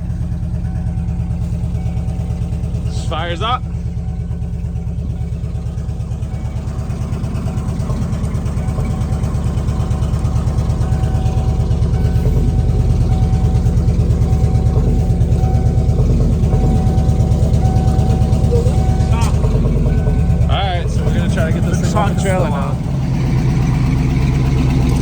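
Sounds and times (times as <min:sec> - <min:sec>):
pickup engine idling: 0:00.0 - 0:25.0.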